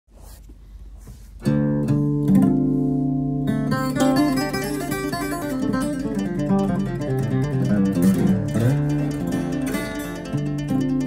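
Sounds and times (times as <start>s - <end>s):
acoustic guitar plucked notes: 1.4s - 11.0s.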